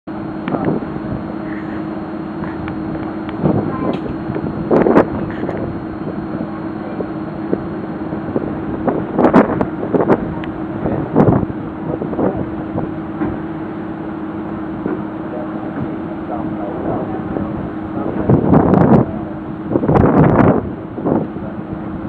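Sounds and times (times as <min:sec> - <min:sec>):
boat engine humming: 0:00.0 - 0:22.0
wind noise on microphone: 0:00.4 - 0:01.5, 0:02.4 - 0:13.6, 0:15.8 - 0:22.0.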